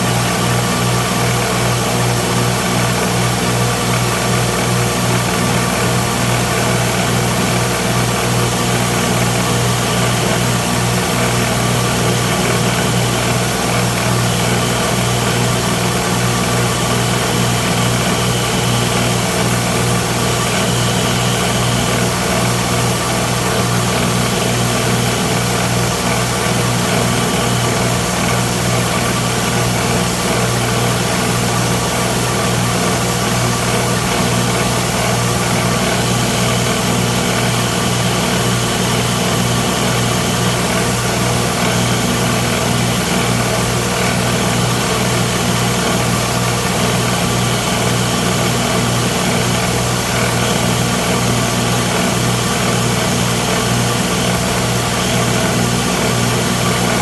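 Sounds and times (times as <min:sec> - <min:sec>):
grinder motor hum: 0:00.0 - 0:57.0.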